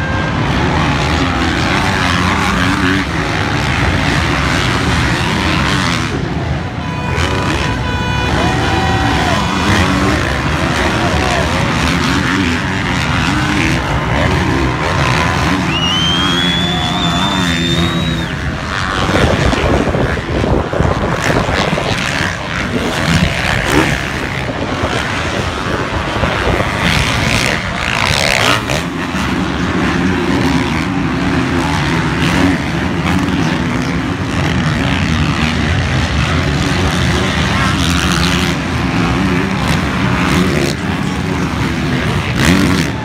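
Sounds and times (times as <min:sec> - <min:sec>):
motocross bikes revving: 0:00.0 - 0:43.0.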